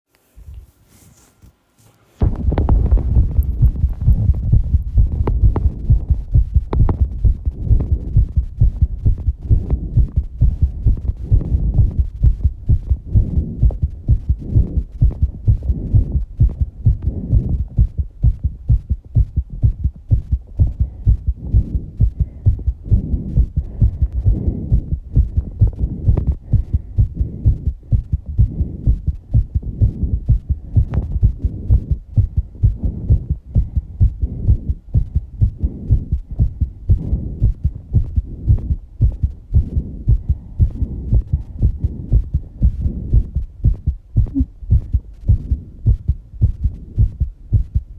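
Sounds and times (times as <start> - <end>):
fast heartbeat thumps: 2.2 - 47.9
heavy breathing: 2.8 - 18.6, 19.4 - 47.3.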